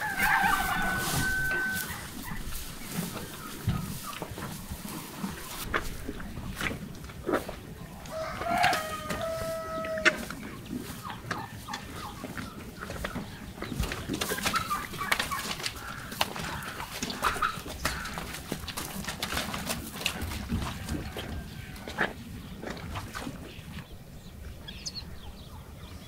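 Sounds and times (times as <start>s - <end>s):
calves chewing hay: 0.0s - 23.9s
chickens clucking: 0.0s - 26.0s.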